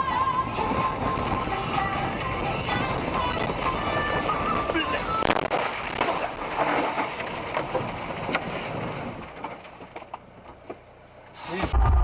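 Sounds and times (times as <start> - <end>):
car road and cabin noise: 0.0 - 12.0.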